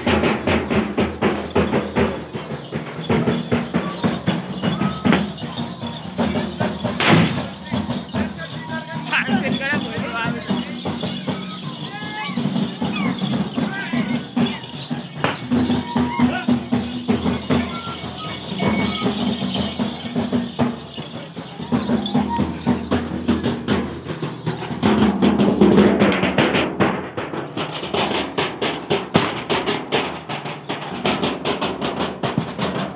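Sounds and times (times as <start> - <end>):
frame drums beaten with sticks: 0.0 - 32.9.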